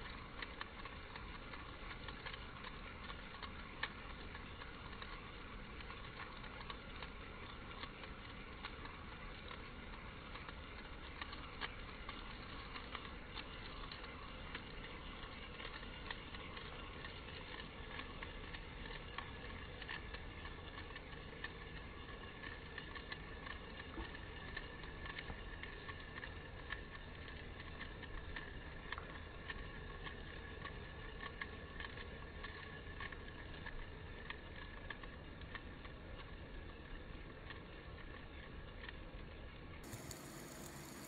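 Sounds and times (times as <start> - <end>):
fidget spinners whirring: 0.0 - 41.0
light ticks: 0.0 - 41.0.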